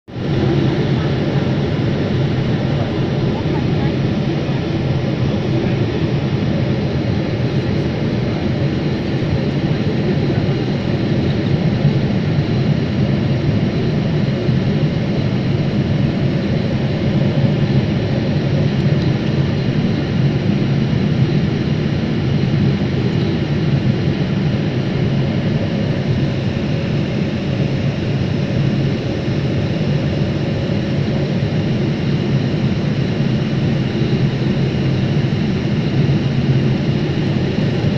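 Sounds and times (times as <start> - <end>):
jet engines and rushing air: 0.1 - 37.9.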